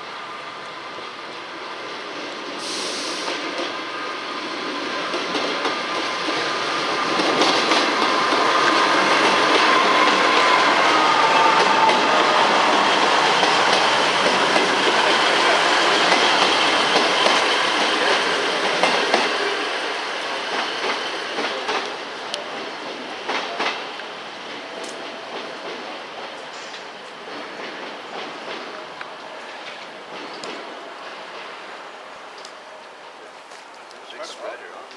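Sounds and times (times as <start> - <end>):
train wheels on rails: 0.0 - 34.9
train whine: 0.0 - 34.9.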